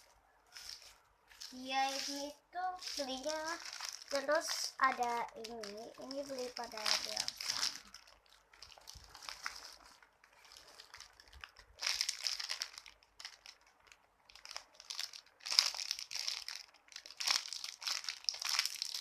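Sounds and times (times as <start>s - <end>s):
crinkling and rustling of toys: 0.0s - 19.0s.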